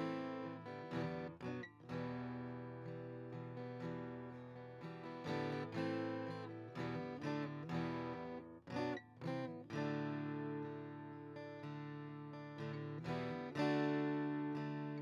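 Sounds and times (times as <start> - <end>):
soft acoustic guitar music: 0.0 - 15.0.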